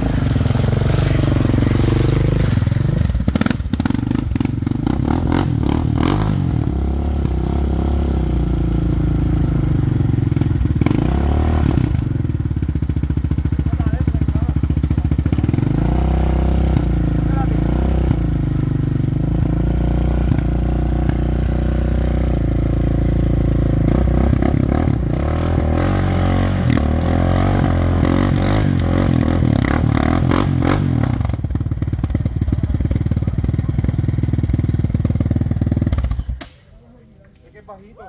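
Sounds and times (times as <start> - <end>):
atv engine revving: 0.0 - 36.5.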